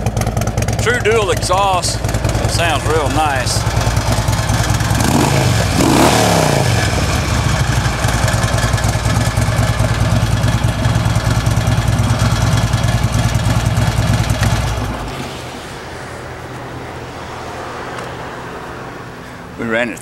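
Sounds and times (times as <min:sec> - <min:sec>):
motorcycle engine revving and idling: 0:00.0 - 0:18.1.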